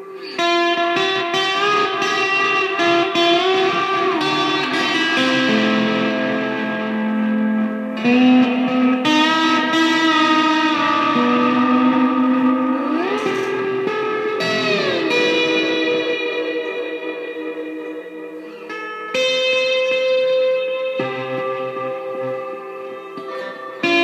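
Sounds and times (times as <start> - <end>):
electric guitar melody: 0.0 - 24.0.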